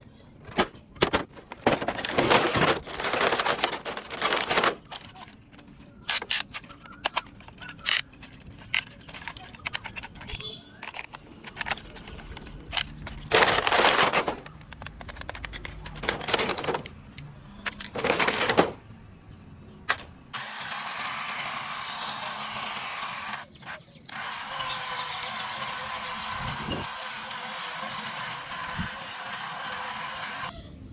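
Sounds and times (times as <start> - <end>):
toy electric motors and gears: 0.4 - 18.8, 19.9 - 30.7.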